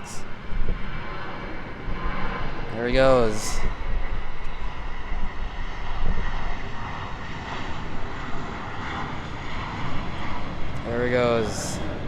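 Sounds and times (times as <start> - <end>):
faint high whine: 0.0 - 12.0
jet engines at takeoff: 0.0 - 12.0.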